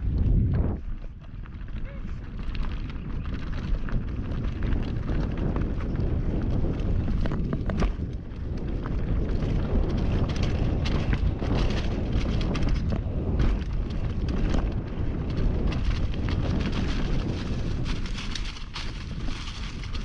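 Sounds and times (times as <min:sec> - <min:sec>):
bike clicks and rattles: 0:00.0 - 0:20.0
tyres on dirt: 0:00.0 - 0:20.0
wind rumble on microphone: 0:00.0 - 0:20.0.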